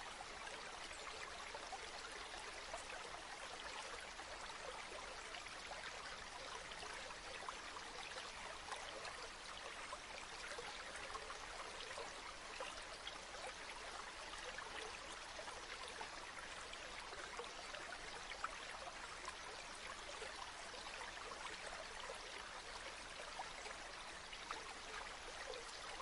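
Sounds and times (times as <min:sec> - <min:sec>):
river water babbling: 0:00.0 - 0:26.0.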